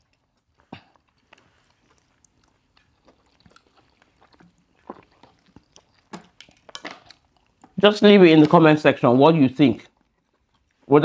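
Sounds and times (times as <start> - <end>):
person chewing food: 0.0 - 8.7, 9.6 - 11.0.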